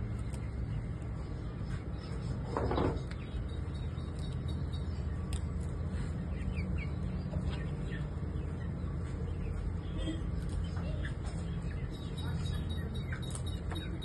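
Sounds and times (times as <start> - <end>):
chickens chirping faintly: 0.0 - 14.0
steady low rumble: 0.0 - 14.0.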